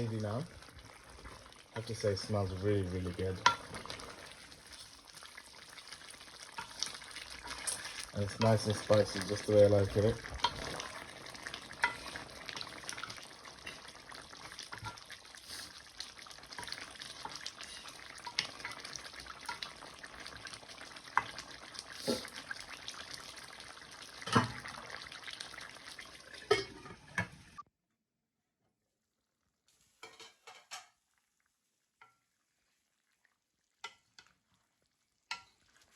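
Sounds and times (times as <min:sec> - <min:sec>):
gravy sizzling in pan: 0:00.0 - 0:27.6, 0:29.6 - 0:35.9.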